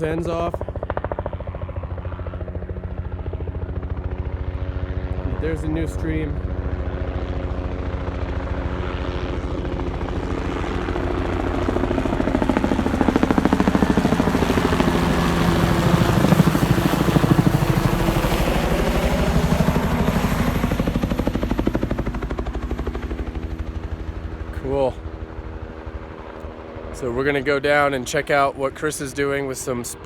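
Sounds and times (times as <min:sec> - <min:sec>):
helicopter rotor beat: 0:00.0 - 0:30.0.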